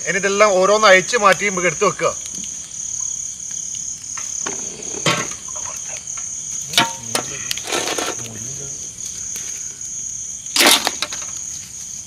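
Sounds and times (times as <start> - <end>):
crickets chirring: 0.0 - 12.0
wood fire cracking: 0.0 - 12.0.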